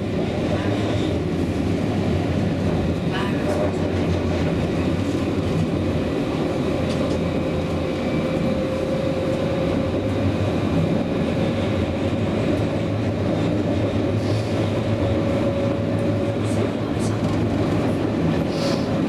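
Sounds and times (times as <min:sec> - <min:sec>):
constant tram whine: 0:00.0 - 0:19.0
tram rolling rumble: 0:00.0 - 0:19.0.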